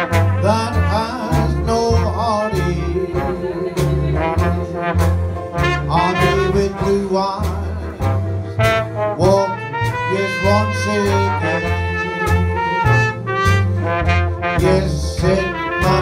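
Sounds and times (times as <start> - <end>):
jazz band playing live: 0.0 - 16.0.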